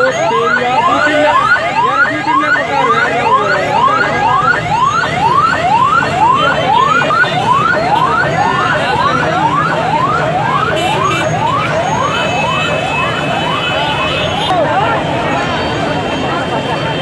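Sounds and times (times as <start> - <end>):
electronic siren whooping: 0.0 - 14.5
second siren: 0.0 - 14.6
crowd noise: 0.0 - 17.0.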